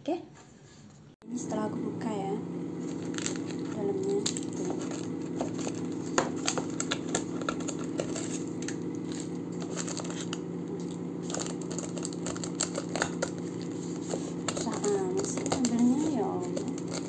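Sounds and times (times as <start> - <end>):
low hum: 1.2 - 17.0
plastic sachets crinkling: 2.8 - 17.0.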